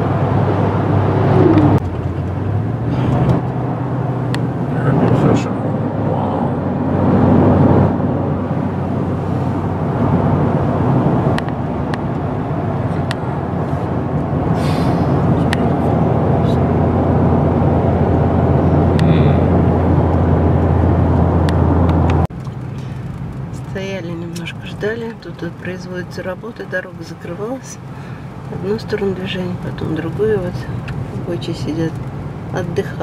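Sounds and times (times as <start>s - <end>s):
low engine hum: 0.0s - 33.0s.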